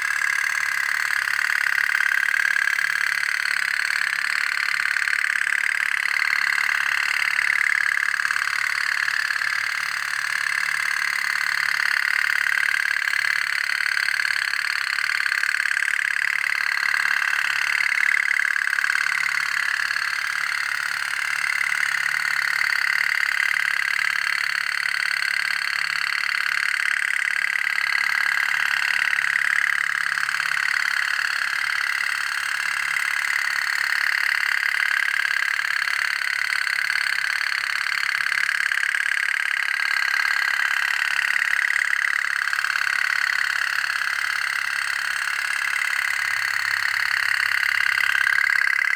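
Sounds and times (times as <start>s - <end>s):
toy boat putt-putt: 0.0s - 48.9s.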